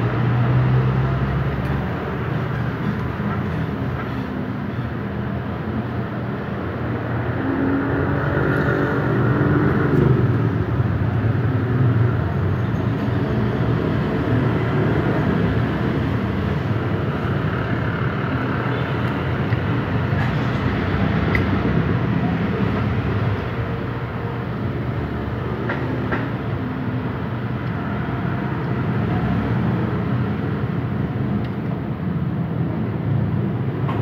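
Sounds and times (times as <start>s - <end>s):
traffic hum: 0.0s - 34.0s.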